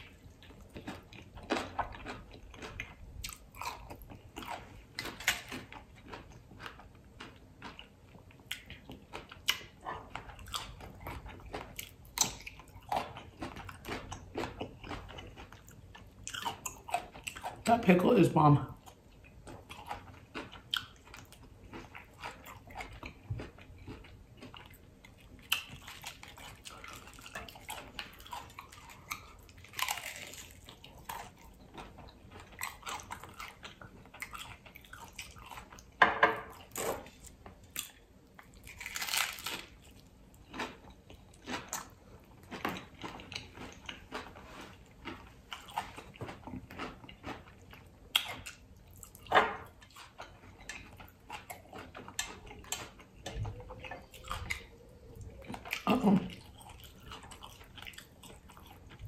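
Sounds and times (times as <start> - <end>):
wet chewing: 0.0 - 18.1, 18.8 - 59.0
taco shell crunching: 0.0 - 18.3, 18.9 - 35.9, 36.6 - 53.2.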